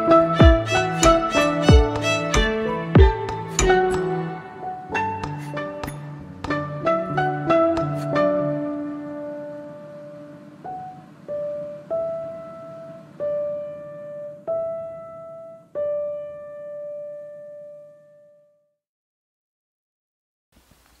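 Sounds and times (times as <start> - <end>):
slow single piano notes: 0.0 - 18.0.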